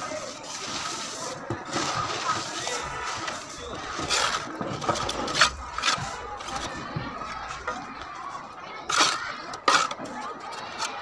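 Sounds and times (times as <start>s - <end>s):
trowel knocking and scraping bricks: 0.2s - 8.1s, 8.9s - 11.0s.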